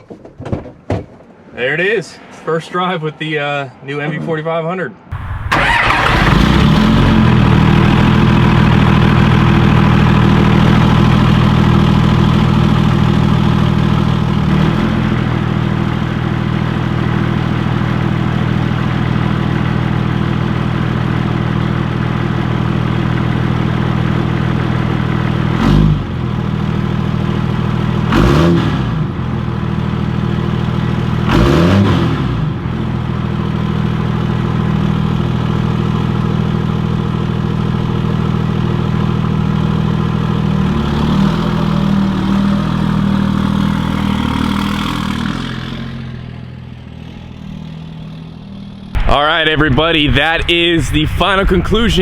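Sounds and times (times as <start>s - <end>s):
diesel truck engine running: 5.1s - 52.0s.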